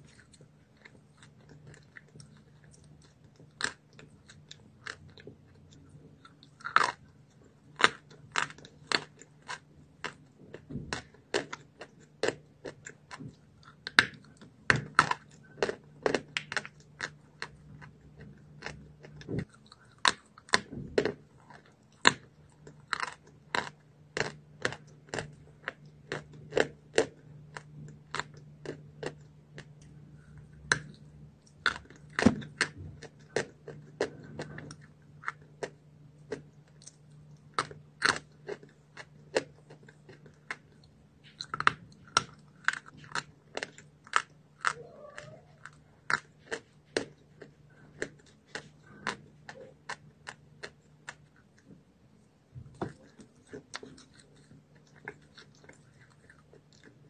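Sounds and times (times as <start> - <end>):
person chewing chalk crunches: 0.0 - 57.0
steady low hum: 0.0 - 57.0.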